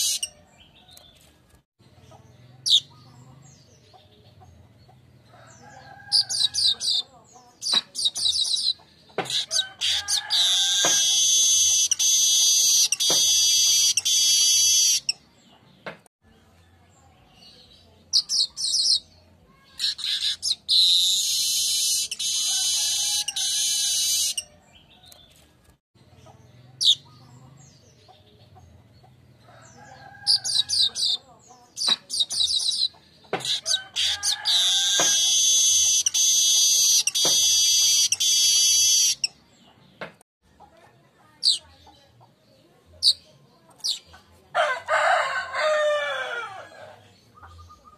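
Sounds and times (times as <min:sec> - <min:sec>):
bird chirps: 0:00.0 - 0:15.9, 0:17.2 - 0:25.4, 0:26.0 - 0:40.1, 0:47.1 - 0:47.9
birds buzzy rattling song: 0:00.0 - 0:47.9.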